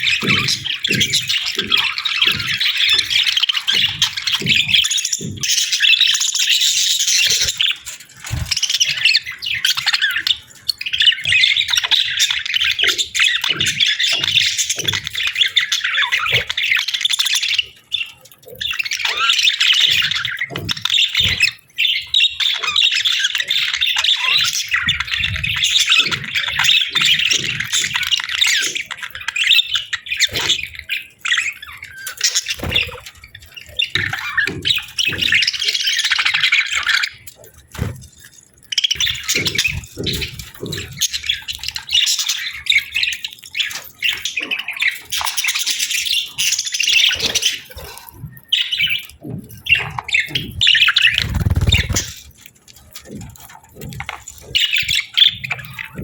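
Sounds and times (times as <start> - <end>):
budgerigars chattering and chirping: 0.0 - 38.0, 38.6 - 56.0.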